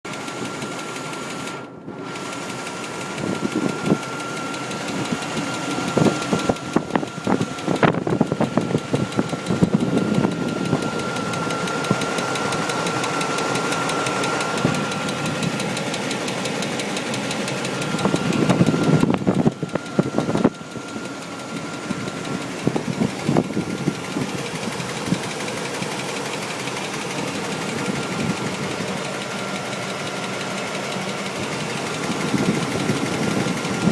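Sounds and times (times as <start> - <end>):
car engine knocking: 0.0 - 33.9
thin steady whine: 2.9 - 33.9.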